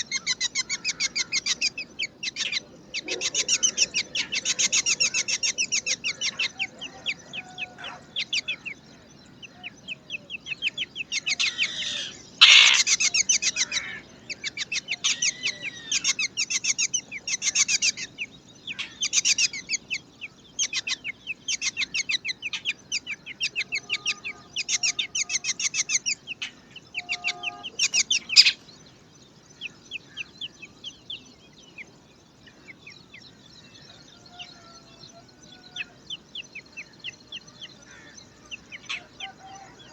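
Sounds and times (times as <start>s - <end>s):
bird chicks begging chirps: 0.0s - 39.9s.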